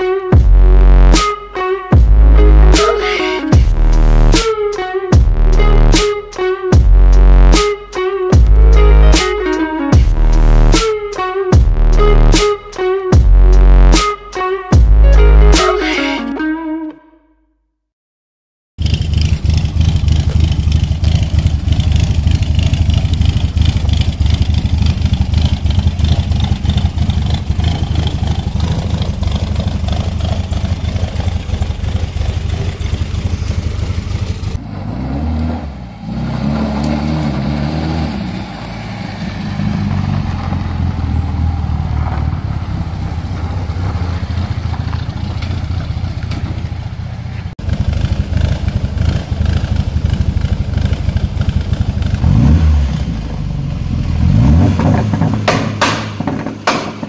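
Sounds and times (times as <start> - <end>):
car engine running and revving: 1.9 - 4.5, 5.1 - 12.5, 18.8 - 57.0.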